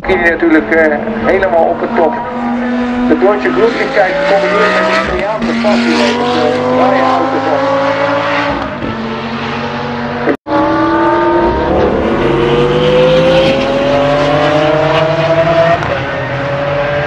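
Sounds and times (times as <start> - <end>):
engine revving at full throttle: 0.1 - 17.0.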